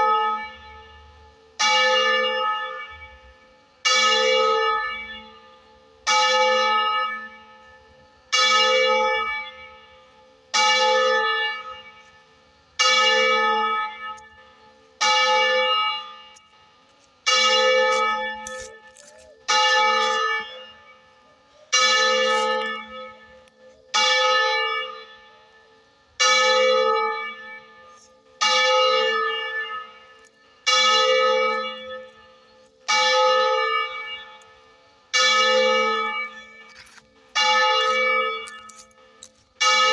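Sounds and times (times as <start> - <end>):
church bell tolling: 0.0 - 39.9.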